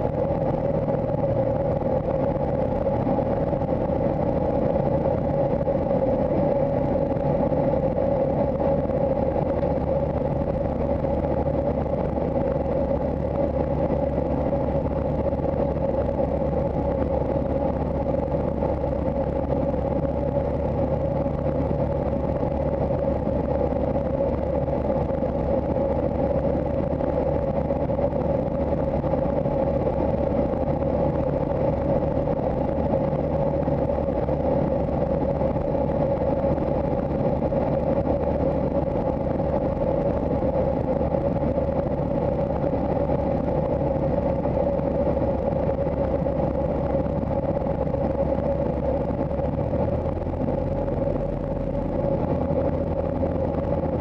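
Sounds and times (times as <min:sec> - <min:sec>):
aircraft engine and propeller drone: 0:00.0 - 0:54.0.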